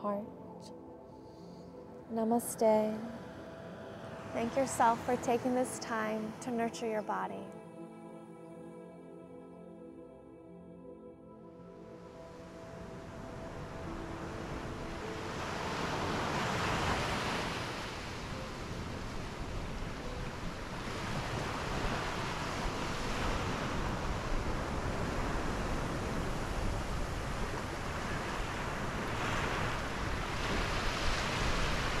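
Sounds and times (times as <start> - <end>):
ocean waves washing: 1.3 - 7.0, 12.0 - 32.0.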